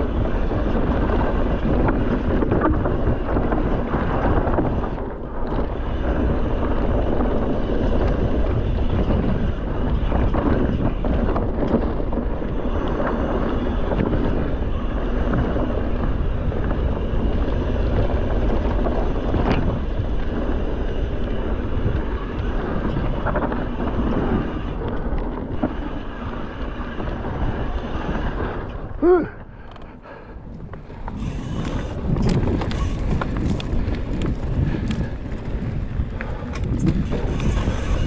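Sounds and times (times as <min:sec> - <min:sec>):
bike rattling: 0:00.0 - 0:38.0
tyres running over dirt: 0:00.0 - 0:38.0
wind on microphone: 0:00.0 - 0:38.0.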